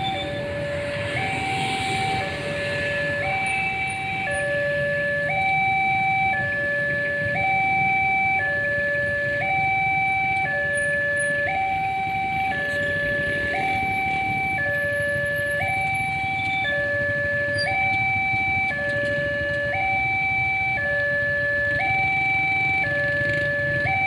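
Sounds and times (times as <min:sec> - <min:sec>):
two-tone crossing alarm: 0:00.0 - 0:24.0.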